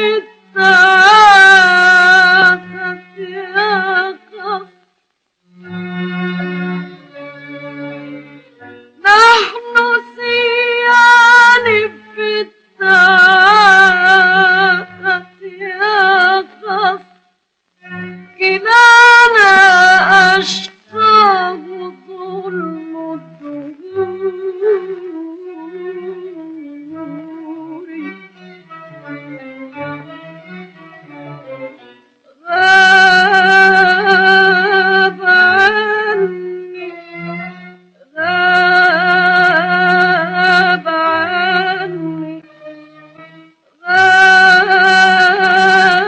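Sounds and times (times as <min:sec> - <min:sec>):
string ensemble: 0:00.0 - 0:04.8, 0:05.4 - 0:46.0
woman singing with vibrato: 0:00.0 - 0:04.8, 0:08.9 - 0:17.2, 0:18.4 - 0:30.0, 0:31.0 - 0:42.5, 0:43.2 - 0:46.0.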